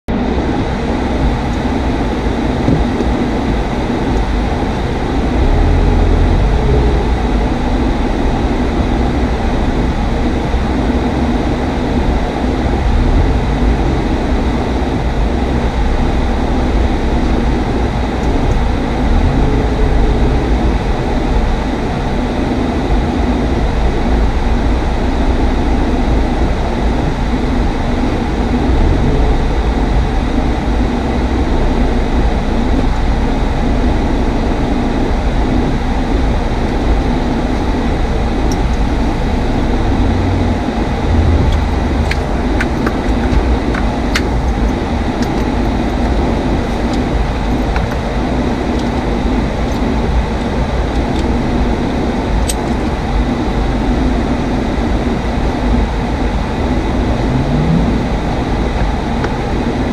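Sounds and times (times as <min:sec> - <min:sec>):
car engine and road rumble: 0:00.1 - 0:59.9.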